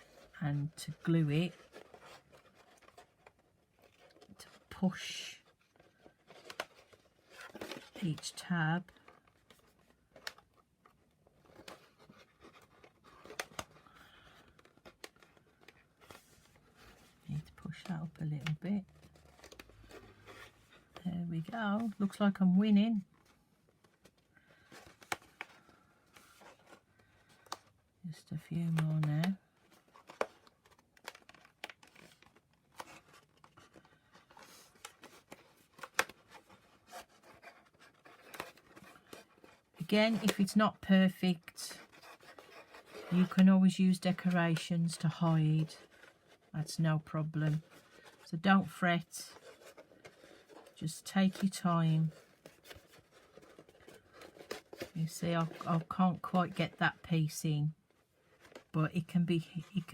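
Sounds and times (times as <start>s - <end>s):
soft paper rustling: 0.0s - 59.9s.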